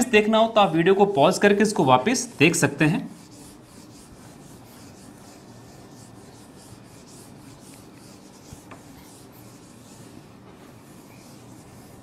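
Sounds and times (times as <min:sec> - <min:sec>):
whiteboard being wiped: 0:01.3 - 0:12.0.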